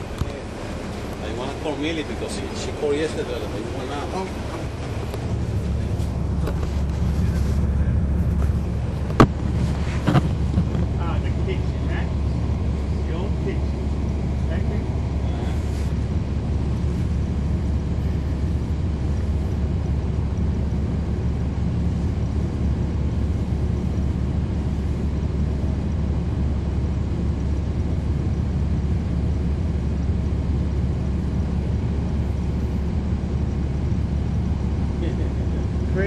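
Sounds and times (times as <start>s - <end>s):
bus diesel engine rumbling: 0.0s - 36.0s.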